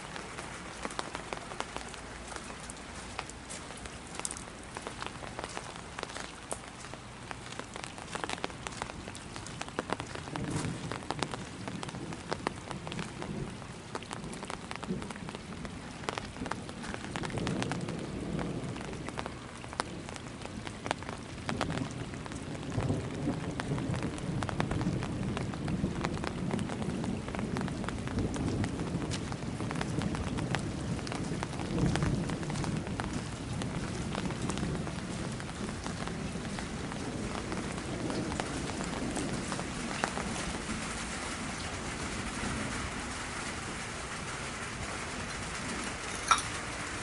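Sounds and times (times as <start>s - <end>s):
heavy rain falling: 0.0s - 47.0s
raindrops ticking on hard surfaces: 0.0s - 47.0s.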